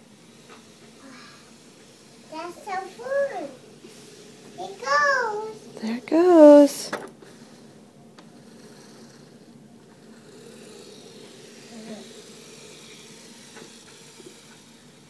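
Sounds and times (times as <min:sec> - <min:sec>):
robotic floor sweeper whirring: 0:00.0 - 0:15.0.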